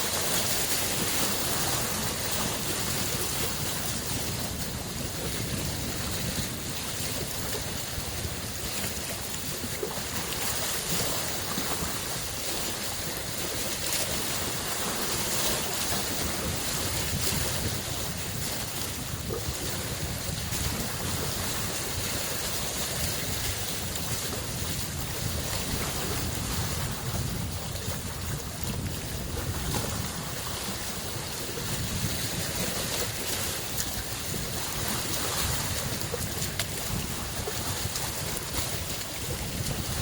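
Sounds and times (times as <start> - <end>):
waves washing against shore: 0.0 - 40.0
wind on microphone: 0.0 - 40.0.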